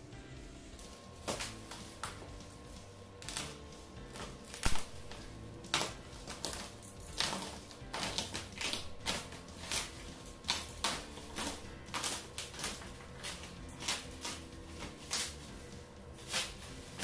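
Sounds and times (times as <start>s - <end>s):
faint background music: 0.0s - 17.0s
plastic wrapping crinkling: 3.2s - 17.0s.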